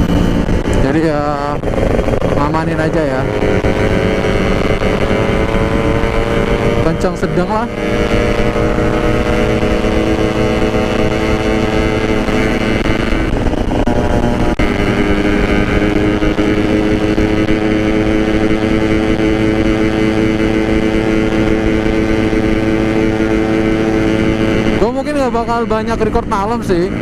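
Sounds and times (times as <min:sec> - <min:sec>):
two-stroke motorcycle engine cruising: 0:00.0 - 0:27.0.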